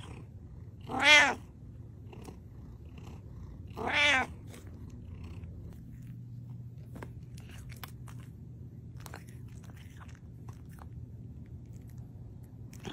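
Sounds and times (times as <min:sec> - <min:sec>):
cat purring: 0:00.0 - 0:08.1, 0:08.8 - 0:12.9.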